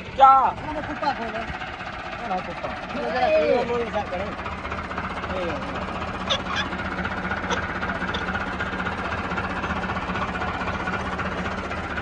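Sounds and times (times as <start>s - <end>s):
tractor diesel engine drone: 0.0s - 12.0s.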